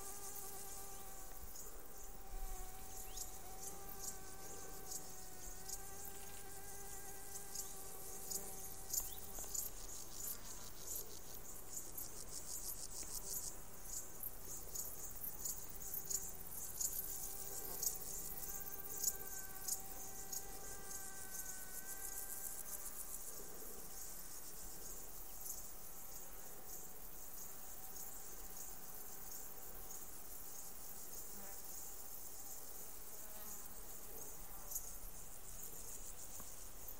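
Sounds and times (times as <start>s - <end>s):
crickets and grasshoppers chirping: 0.0s - 36.9s
flying insect buzzing: 0.0s - 36.9s.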